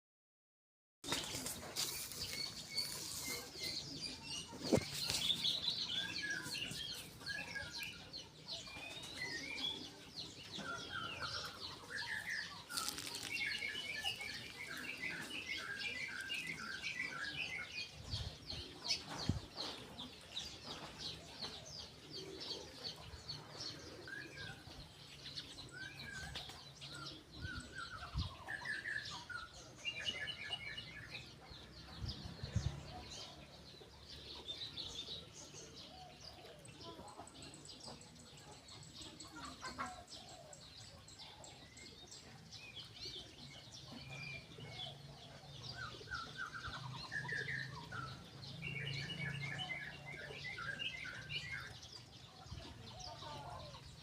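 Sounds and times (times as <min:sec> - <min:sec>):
wild birds singing and calling: 0:01.0 - 0:54.0.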